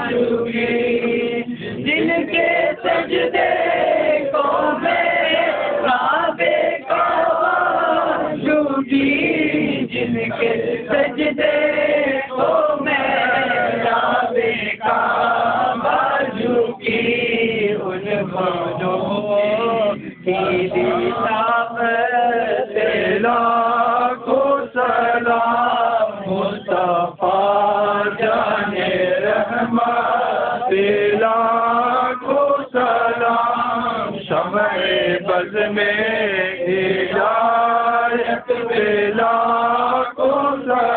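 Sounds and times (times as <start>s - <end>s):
men chanting a devotional song: 0.0s - 40.9s.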